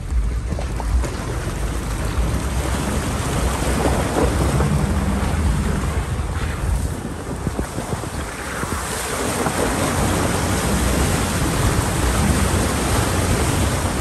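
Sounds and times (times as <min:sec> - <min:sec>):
vehicle low rumble: 0:00.0 - 0:14.0
water splashing under tyres: 0:00.0 - 0:14.0.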